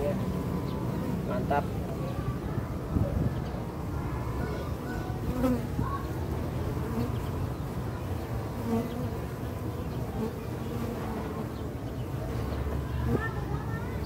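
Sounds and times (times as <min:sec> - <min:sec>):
bees buzzing: 0:00.0 - 0:02.5, 0:03.8 - 0:14.0.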